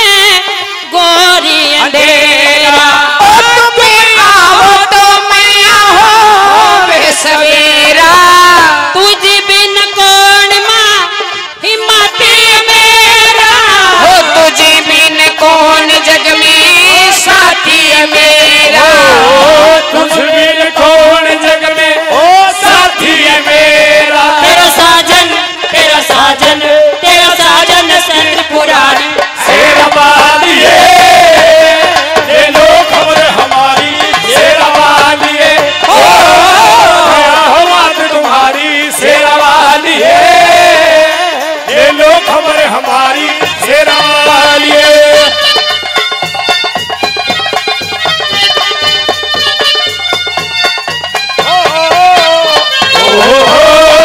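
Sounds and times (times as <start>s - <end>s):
person singing through a pa: 0.0s - 45.8s, 51.4s - 54.0s
musical accompaniment: 0.0s - 54.0s.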